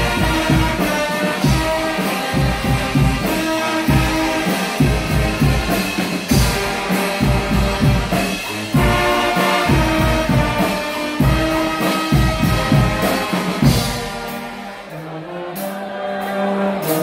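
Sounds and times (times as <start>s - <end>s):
bass drum and drum kit: 0.0s - 14.9s
brass band playing: 0.0s - 17.0s
trumpets and trombones chords: 0.0s - 17.0s.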